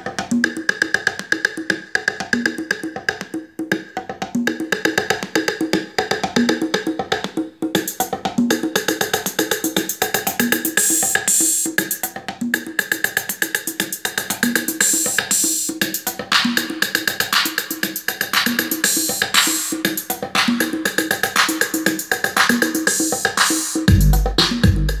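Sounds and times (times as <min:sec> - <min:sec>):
percussive instrumental music: 0:00.0 - 0:25.0.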